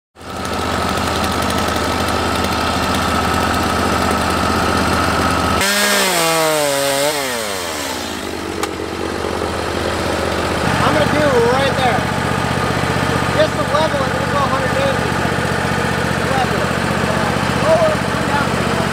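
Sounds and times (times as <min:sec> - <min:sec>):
chainsaw engine revving down: 0:00.2 - 0:18.9.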